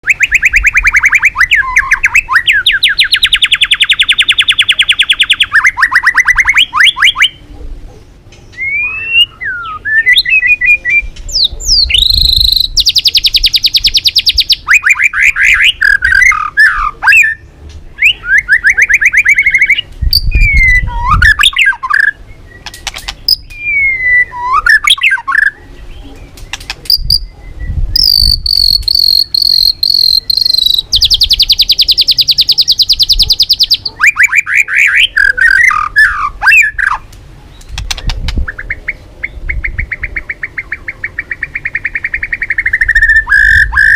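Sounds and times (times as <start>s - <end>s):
bird singing trills and whistles: 0.0s - 7.4s, 8.4s - 43.9s.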